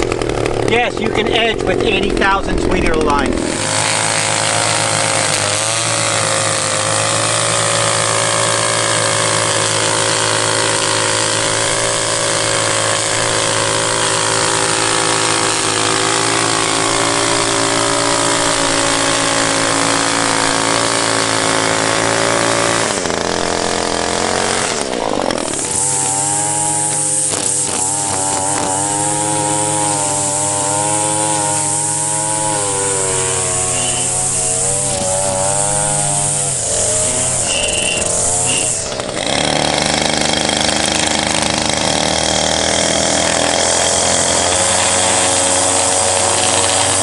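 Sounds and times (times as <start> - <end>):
string trimmer engine revving: 0.0 - 47.0
trimmer line cutting grass: 0.0 - 47.0.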